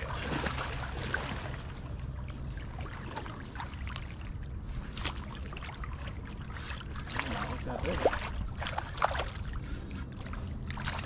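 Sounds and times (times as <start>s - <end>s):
fish thrashing and splashing water: 0.0s - 11.0s.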